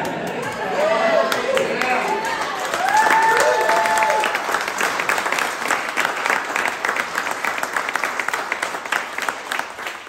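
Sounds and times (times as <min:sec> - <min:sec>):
group of people applauding: 0:00.0 - 0:10.0.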